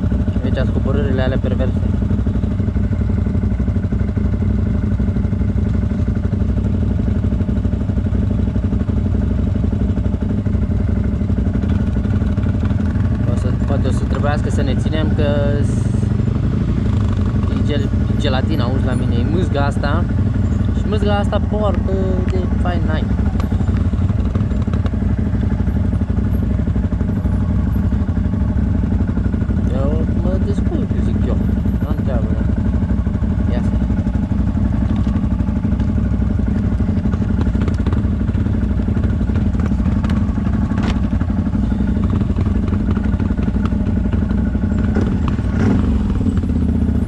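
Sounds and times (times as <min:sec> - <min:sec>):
atv engine running at low revs: 0:00.0 - 0:47.0.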